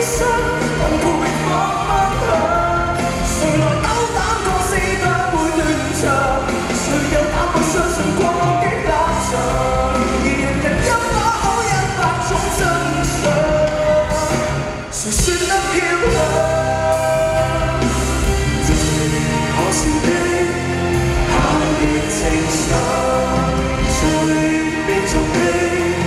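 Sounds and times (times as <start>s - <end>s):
live band playing: 0.0s - 26.0s
man singing into microphone: 0.0s - 26.0s.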